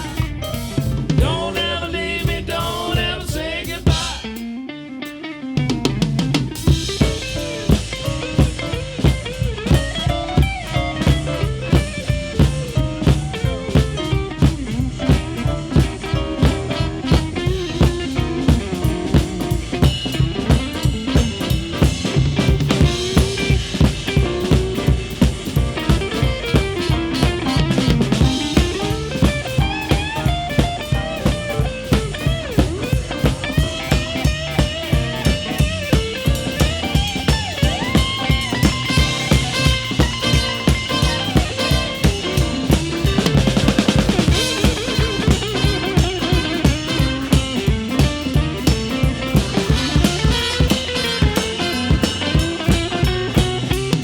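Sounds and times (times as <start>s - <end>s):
snare and bass drum beat: 0.0s - 4.4s, 6.0s - 54.0s
live blues band playing: 0.0s - 54.0s.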